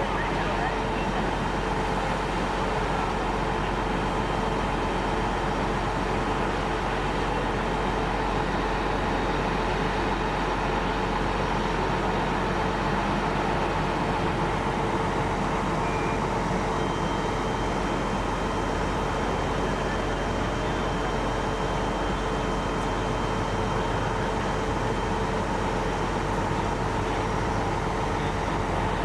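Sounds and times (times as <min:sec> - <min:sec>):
fire truck engine running: 0:00.0 - 0:29.0.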